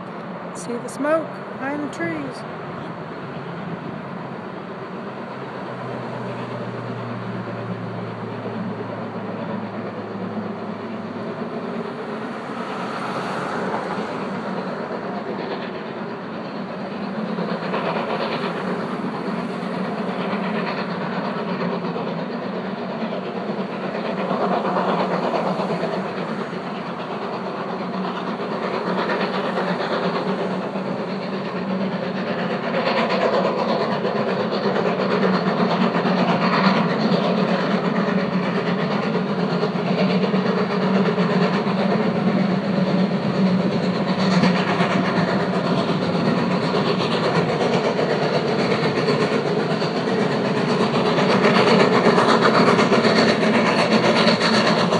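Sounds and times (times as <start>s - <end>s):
steam locomotive working uphill: 0.0s - 54.9s.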